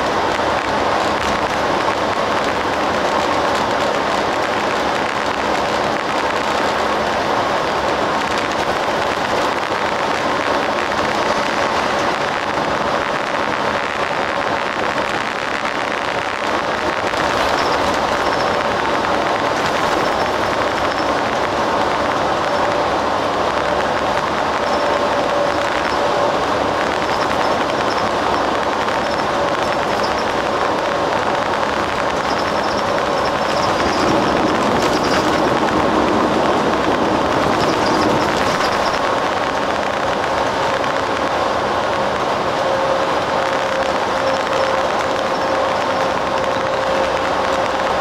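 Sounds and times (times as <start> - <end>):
bus engine and tyre drone: 0.0 - 48.0.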